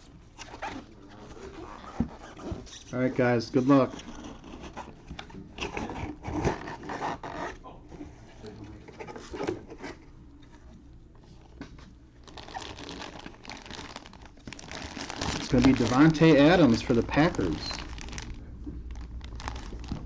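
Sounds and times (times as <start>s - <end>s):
box packaging rustling and scraping: 0.3s - 20.0s.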